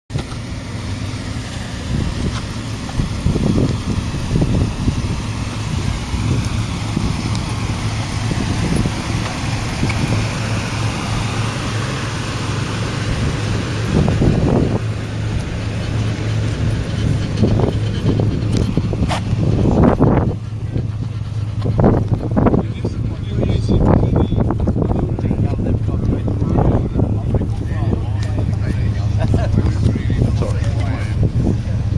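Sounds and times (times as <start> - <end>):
car engine idling: 0.1 - 31.9
wind buffeting microphone: 0.4 - 31.9.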